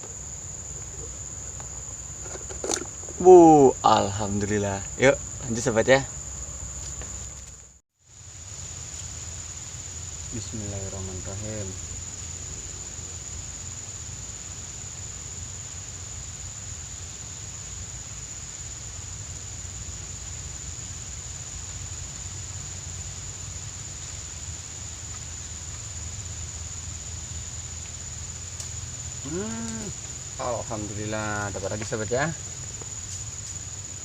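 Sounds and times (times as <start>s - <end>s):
high-pitched insect trill: 0.0s - 34.0s.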